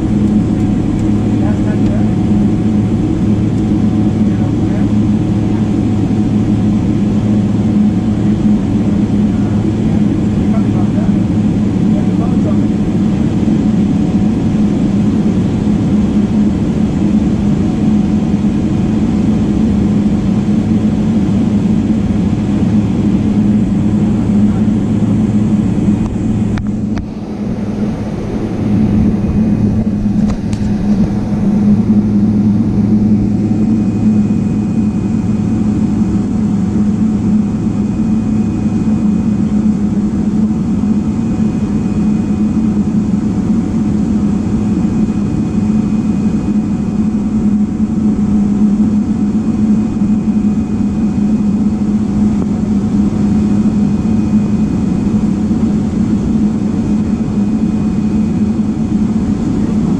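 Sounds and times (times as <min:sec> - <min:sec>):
jet engine cabin drone: 0:00.0 - 0:59.9.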